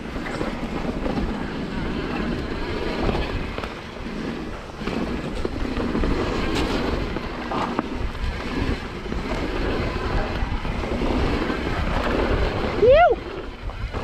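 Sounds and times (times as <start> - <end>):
bike tyres rolling on dirt: 0.0 - 14.0
wind buffeting microphone: 0.0 - 14.0.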